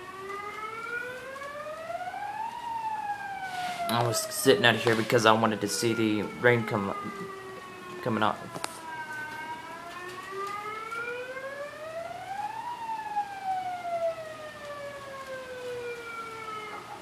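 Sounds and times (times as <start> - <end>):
siren wailing: 0.0 - 17.0.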